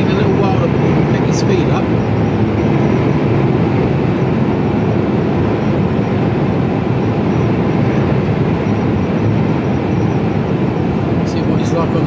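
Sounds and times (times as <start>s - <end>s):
lorry engine and road rumble: 0.0s - 12.0s.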